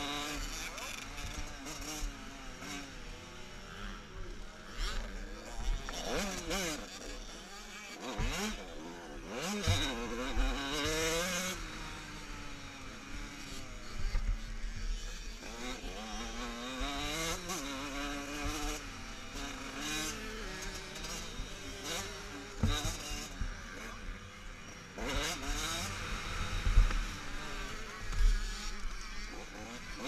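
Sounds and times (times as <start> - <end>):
motocross engines revving: 0.0 - 30.0.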